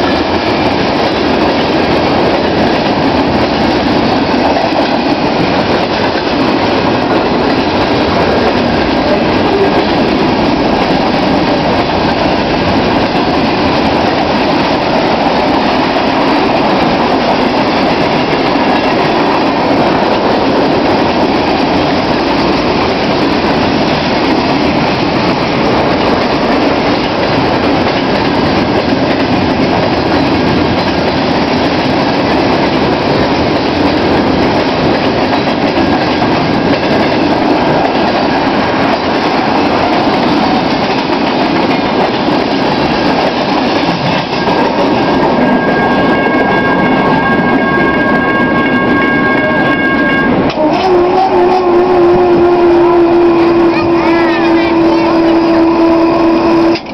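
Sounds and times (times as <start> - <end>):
freight train wheels rumbling: 0.0 - 56.9.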